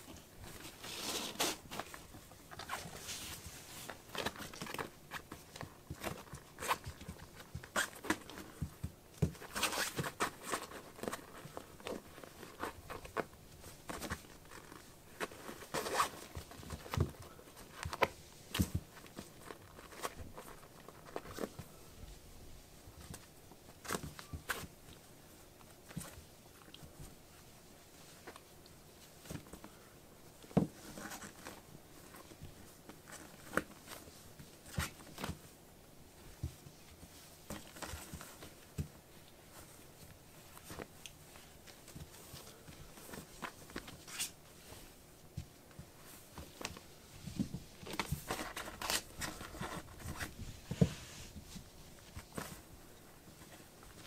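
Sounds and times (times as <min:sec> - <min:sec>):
kitten paws scuffing on fabric: 0:00.0 - 0:54.0.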